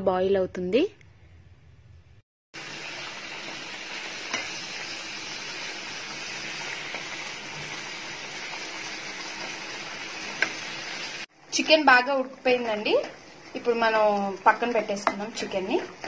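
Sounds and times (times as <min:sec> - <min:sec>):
chicken sizzling in oil: 0:02.6 - 0:16.0.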